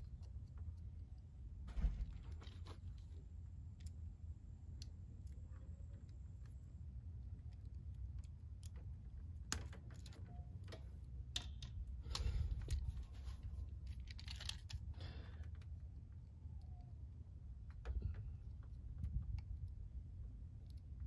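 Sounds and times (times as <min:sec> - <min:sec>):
rustles and plastic clicks: 0:00.0 - 0:21.0.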